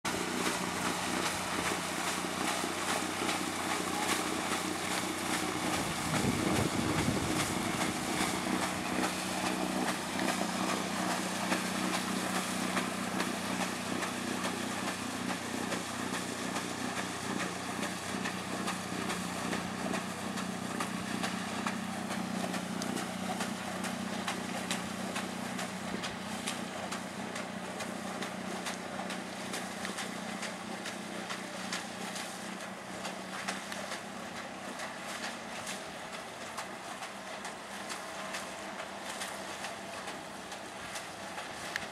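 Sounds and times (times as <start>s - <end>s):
boat engine humming: 0.0s - 41.9s.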